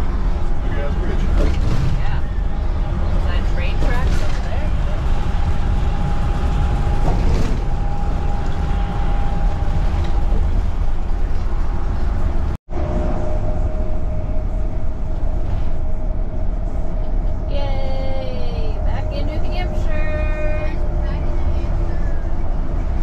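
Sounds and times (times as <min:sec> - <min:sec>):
engine and tyre drone: 0:00.0 - 0:23.0.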